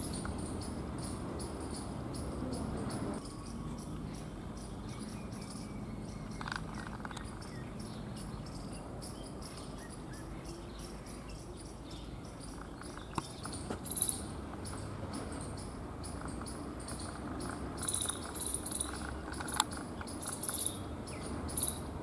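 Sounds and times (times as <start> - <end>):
crickets chirping: 0.0 - 22.0
outdoor background noise: 0.0 - 22.0.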